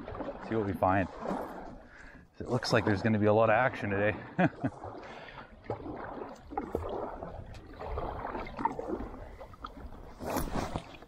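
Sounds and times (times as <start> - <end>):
kayak paddle splashing water: 0.0 - 11.0.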